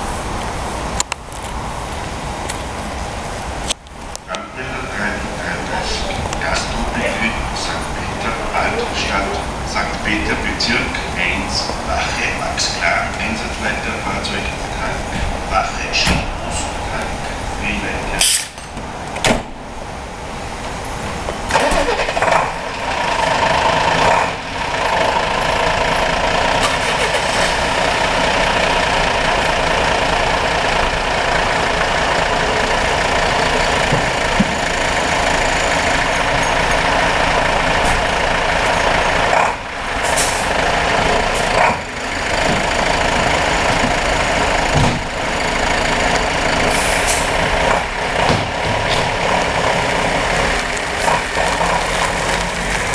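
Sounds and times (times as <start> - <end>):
diesel engines idling: 0.0 - 52.9.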